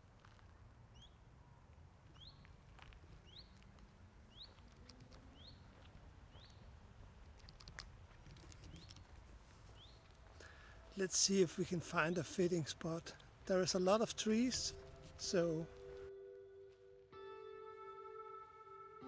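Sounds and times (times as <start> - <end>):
songbird chirping: 0.8 - 1.3, 2.0 - 17.0.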